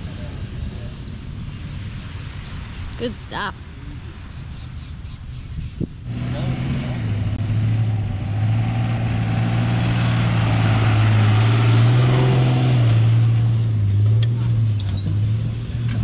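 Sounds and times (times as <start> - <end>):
rush of driving noise: 0.0 - 16.0
vehicle engine droning: 0.0 - 16.0.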